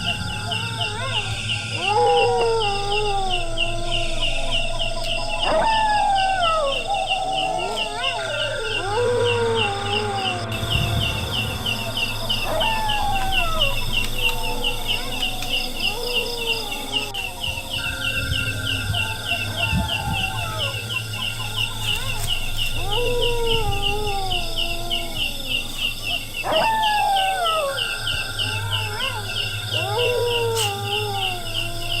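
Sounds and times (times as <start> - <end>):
low hum: 0.0 - 32.0
rapid insect chirping: 0.0 - 32.0
wailing howls falling in pitch: 0.0 - 32.0.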